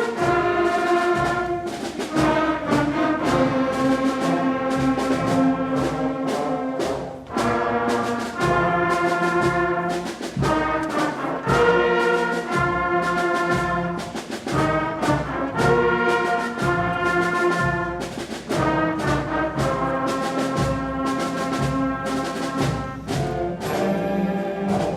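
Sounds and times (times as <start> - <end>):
school concert band playing: 0.0 - 24.9.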